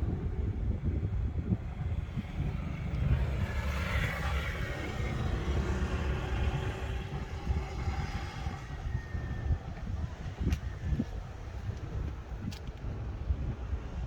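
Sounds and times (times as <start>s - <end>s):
low rumbling vehicle: 0.0s - 14.0s.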